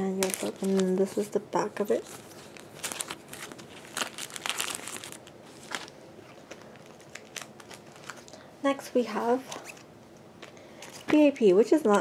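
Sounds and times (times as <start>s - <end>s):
plastic sleeves crinkling: 0.0s - 11.3s.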